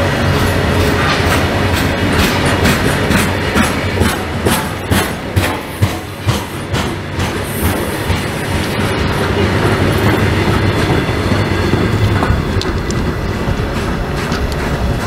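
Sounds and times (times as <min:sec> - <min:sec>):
freight wagons rumbling and rattling: 0:00.0 - 0:15.0
train wheels clicking over rail joints: 0:00.0 - 0:15.0.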